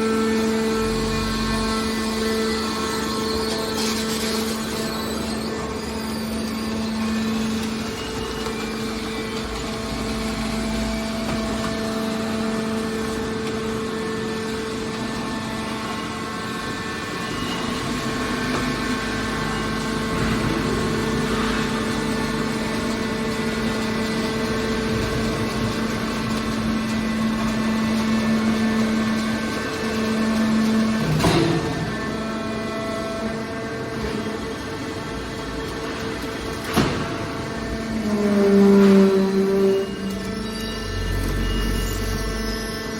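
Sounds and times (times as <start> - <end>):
hydraulic baler machine hum: 0.0 - 42.9.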